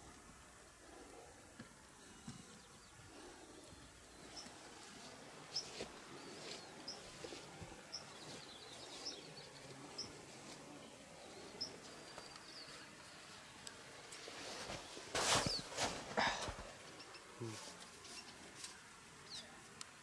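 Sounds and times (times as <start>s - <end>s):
small birds chirping: 2.0s - 20.0s.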